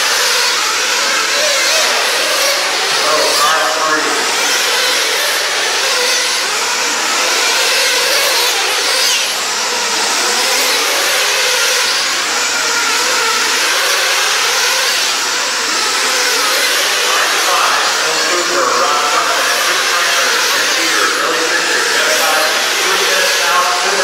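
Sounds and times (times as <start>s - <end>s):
model car engines whining: 0.0s - 24.0s.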